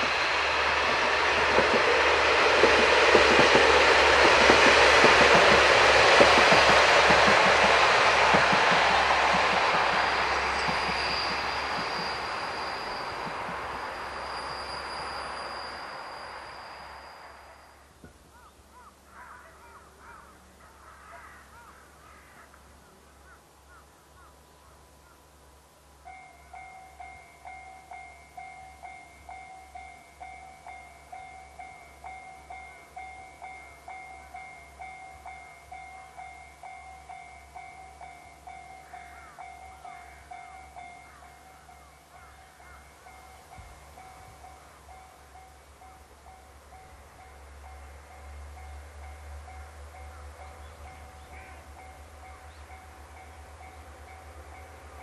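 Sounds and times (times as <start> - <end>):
level-crossing warning bell dinging: 0.0 - 18.0, 25.9 - 55.0
train running: 0.0 - 20.9, 25.3 - 55.0.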